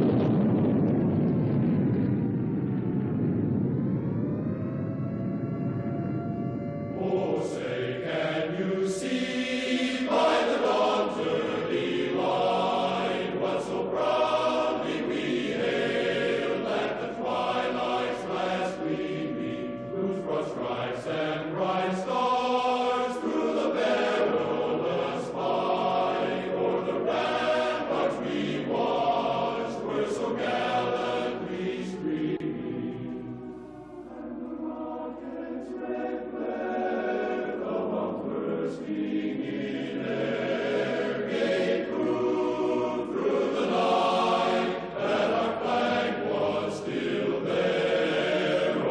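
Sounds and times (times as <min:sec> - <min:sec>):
choir chanting held notes: 0:04.6 - 0:48.9.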